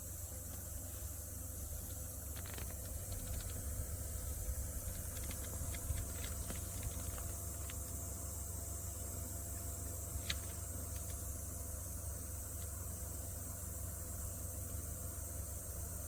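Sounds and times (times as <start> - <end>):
desktop cooler fan humming: 0.0 - 16.0.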